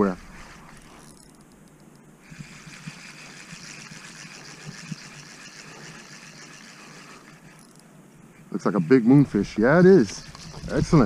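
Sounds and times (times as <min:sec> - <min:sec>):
fishing reel whirring: 0:00.0 - 0:07.9, 0:08.9 - 0:11.0.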